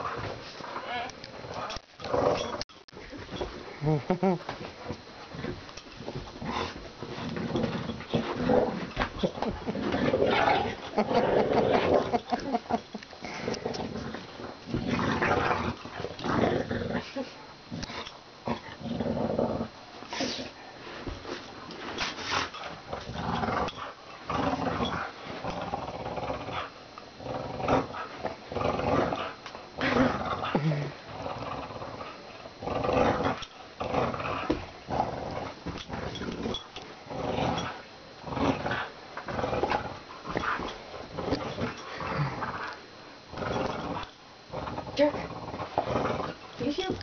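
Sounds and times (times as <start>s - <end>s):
dog play growling: 0.0s - 47.0s.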